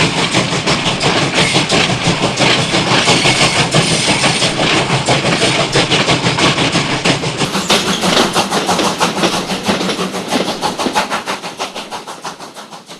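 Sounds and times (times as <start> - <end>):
steam train rhythmic beats: 0.0 - 12.9.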